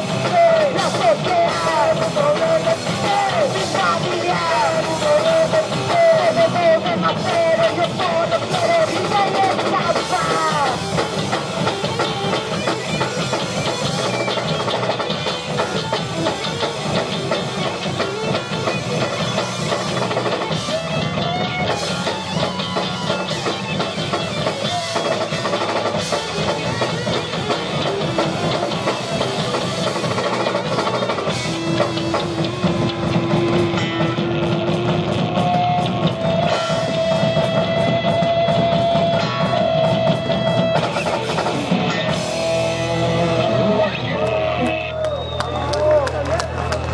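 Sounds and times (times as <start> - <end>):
electric guitar long notes: 0.0 - 46.9
live rock band playing: 0.0 - 46.9.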